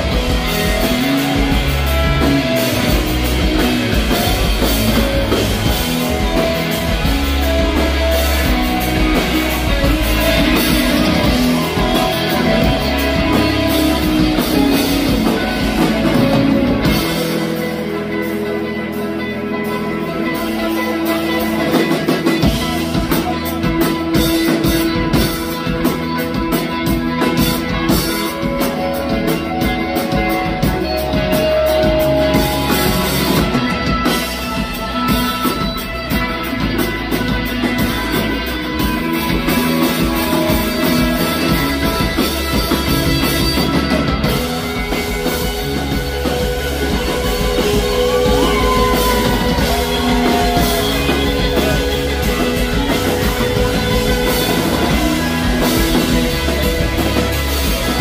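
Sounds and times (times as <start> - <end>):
drum kit with cymbals: 0.0 - 58.0
electric bass: 0.0 - 58.0
electric guitars: 0.0 - 58.0.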